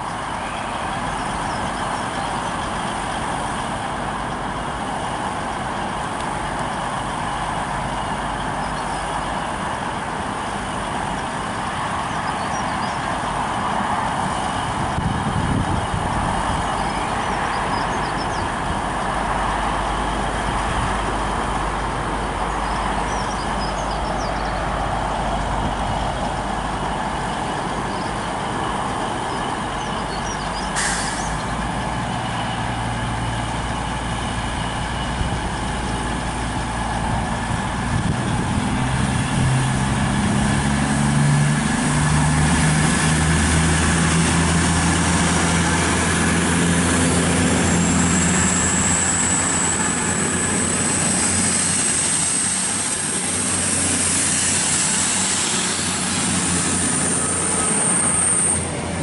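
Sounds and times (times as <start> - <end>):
train diesel engines running: 0.0 - 59.0.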